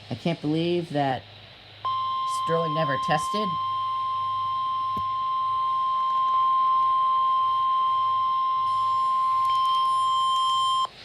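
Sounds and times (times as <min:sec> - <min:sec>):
steady high alarm beep: 0:01.8 - 0:10.9.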